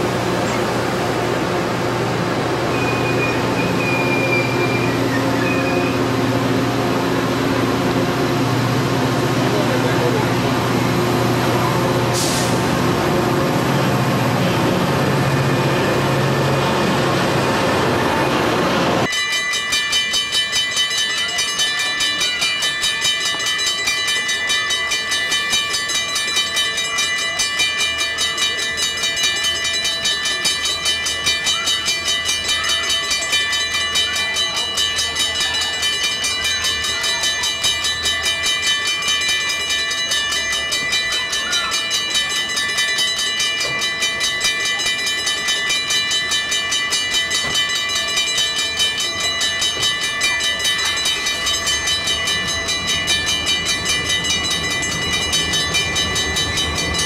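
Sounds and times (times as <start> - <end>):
crossing warning bell ringing: 0.0 - 57.0
distant train approaching: 0.0 - 57.0
low locomotive engine hum: 0.0 - 57.0
train wheels rumbling on rails: 0.0 - 57.0.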